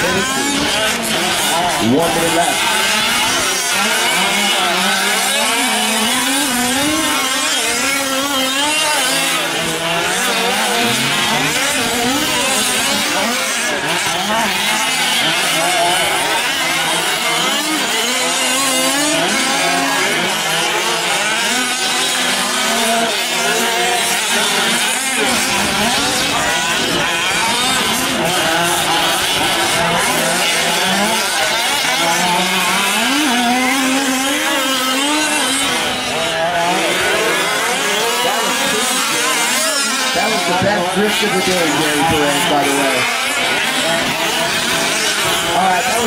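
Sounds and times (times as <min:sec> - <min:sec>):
rc truck engines revving: 0:00.0 - 0:46.0.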